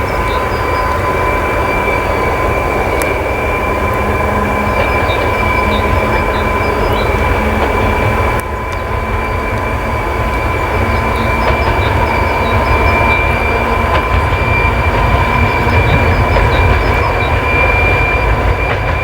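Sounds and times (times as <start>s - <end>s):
diesel locomotive engine rumble: 0.0s - 19.0s
high turbocharger whistle: 0.0s - 19.0s.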